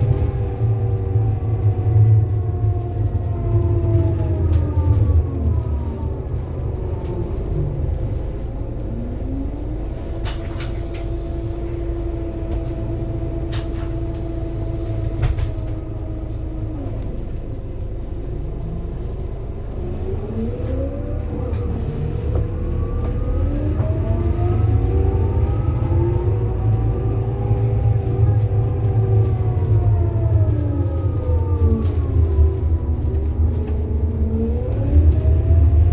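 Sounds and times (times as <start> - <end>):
bus diesel engine: 0.0 - 35.9.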